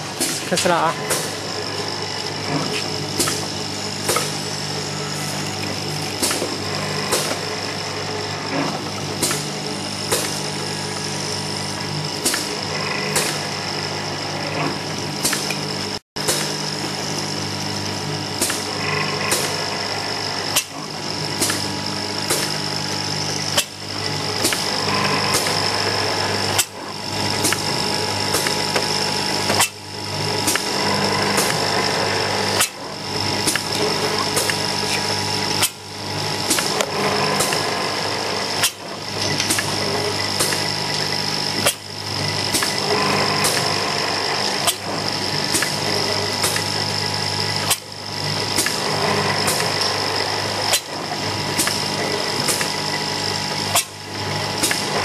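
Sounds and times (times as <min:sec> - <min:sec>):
machine motor hum and whine: 0:00.0 - 0:55.0.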